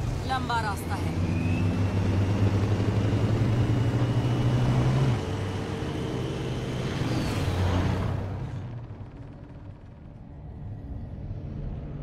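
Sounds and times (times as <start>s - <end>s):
vehicle engines droning: 0.0s - 12.0s.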